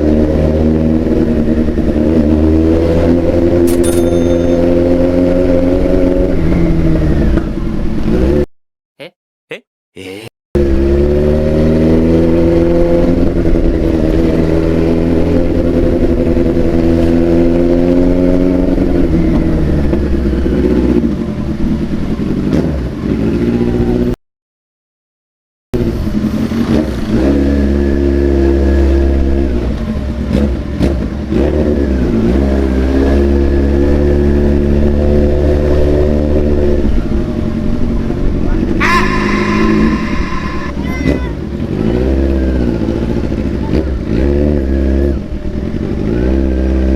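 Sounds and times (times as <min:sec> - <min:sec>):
motorcycle engine revving: 0:00.0 - 0:08.5, 0:10.6 - 0:24.2, 0:25.8 - 0:46.9.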